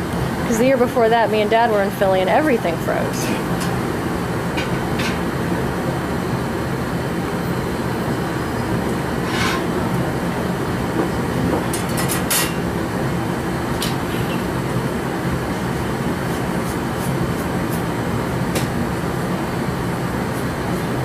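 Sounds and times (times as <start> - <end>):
furnace and blowers roaring: 0.0 - 21.0.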